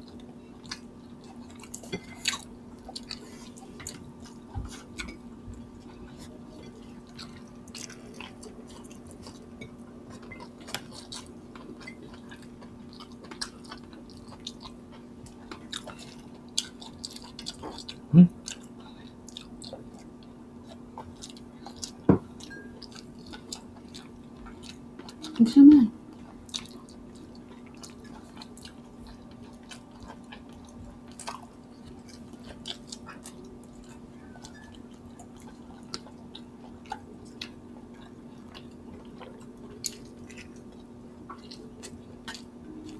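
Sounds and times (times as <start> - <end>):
close chewing: 0.0 - 42.9.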